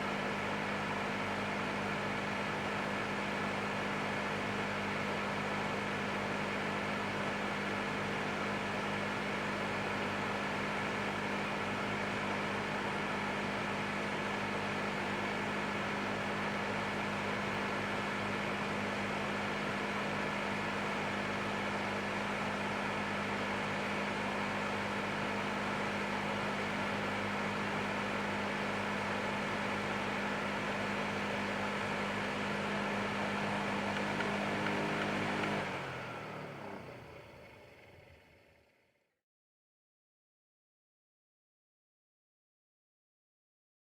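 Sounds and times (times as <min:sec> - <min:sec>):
fan heater blowing air: 0:00.0 - 0:37.2.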